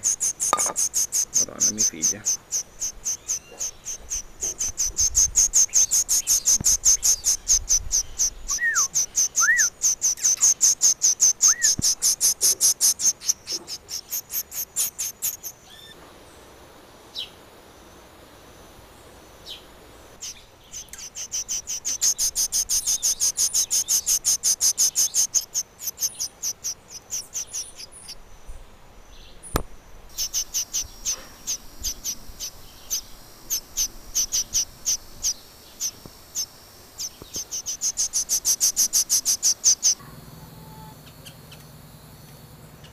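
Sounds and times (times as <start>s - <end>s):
baby bird chirping: 0.0s - 16.0s, 20.2s - 28.2s, 29.4s - 40.0s.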